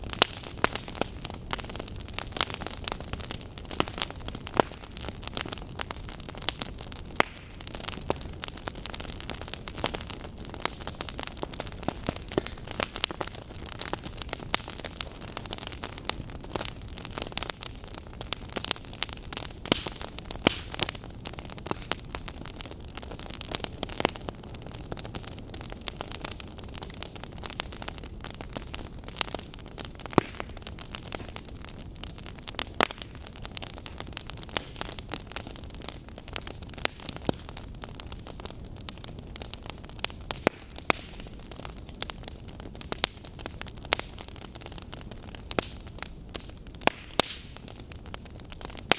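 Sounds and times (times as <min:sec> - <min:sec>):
campfire crackling and popping: 0:00.0 - 0:48.9
flames hissing and rumbling: 0:00.0 - 0:48.9.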